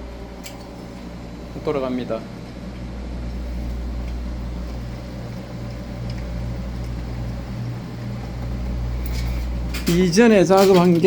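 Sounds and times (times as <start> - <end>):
freezer compressor humming: 0.0 - 11.0.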